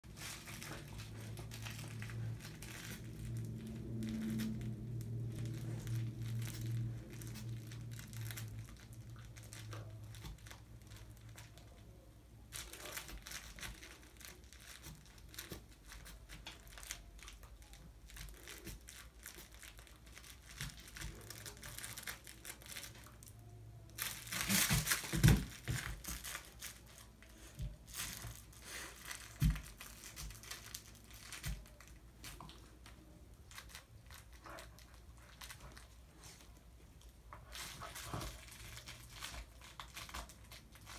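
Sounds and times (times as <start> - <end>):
dog chewing crinkly toy: 0.0 - 40.9.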